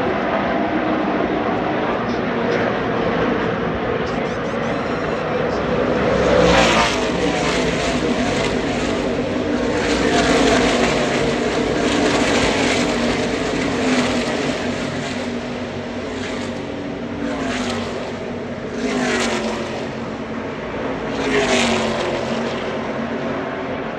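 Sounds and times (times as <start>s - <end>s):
race trucks passing by: 0.0s - 23.9s.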